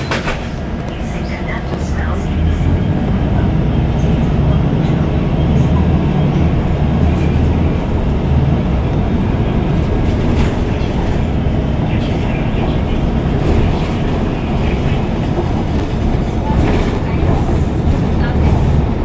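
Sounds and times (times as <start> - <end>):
vehicle rumble from inside cabin: 0.0 - 19.0.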